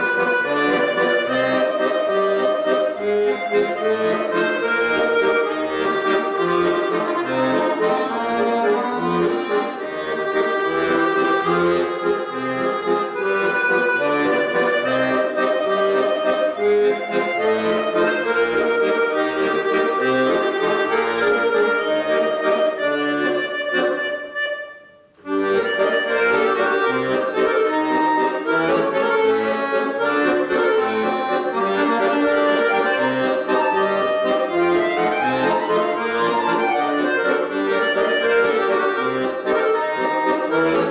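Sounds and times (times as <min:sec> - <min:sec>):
lively solo accordion: 0:00.0 - 0:40.9.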